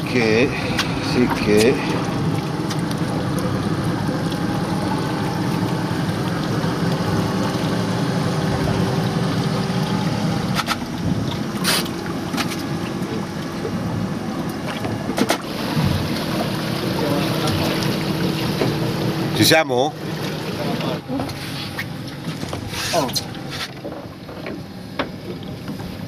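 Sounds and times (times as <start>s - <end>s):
steady low rumble: 0.0s - 21.0s
water: 0.0s - 26.0s
wind: 0.0s - 26.0s.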